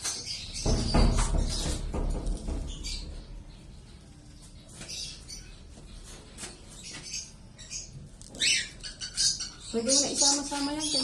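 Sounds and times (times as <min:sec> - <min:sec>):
lovebirds chirping: 0:00.0 - 0:11.0.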